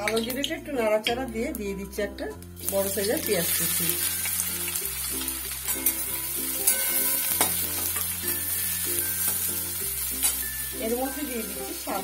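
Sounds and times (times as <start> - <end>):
light background music: 0.0 - 12.0
onions sizzling in hot oil: 1.3 - 12.0.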